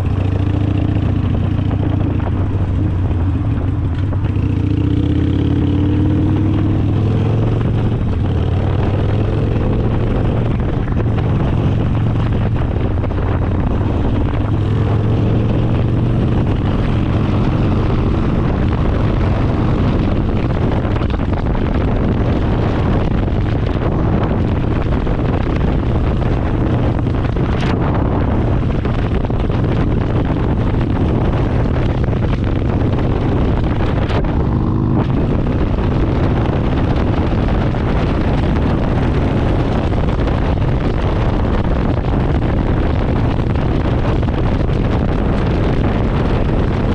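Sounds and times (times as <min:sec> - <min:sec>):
motorcycle engine deep drone: 0:00.0 - 0:46.9
wind noise on microphone: 0:00.0 - 0:46.9.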